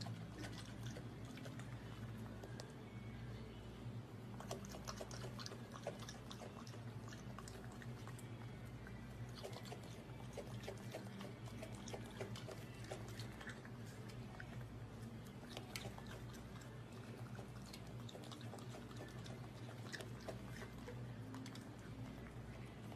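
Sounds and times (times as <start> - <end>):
raccoon chewing wet smacks: 0.0 - 2.8, 4.3 - 22.9
steady low hum: 0.0 - 22.9.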